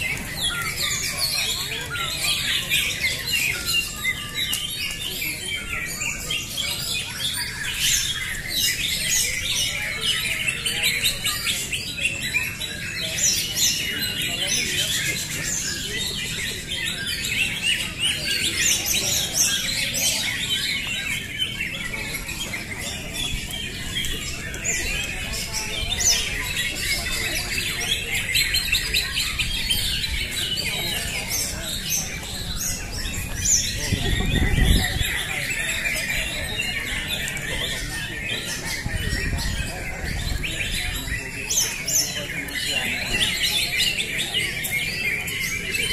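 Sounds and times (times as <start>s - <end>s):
birds chirping in chorus: 0.0s - 45.9s.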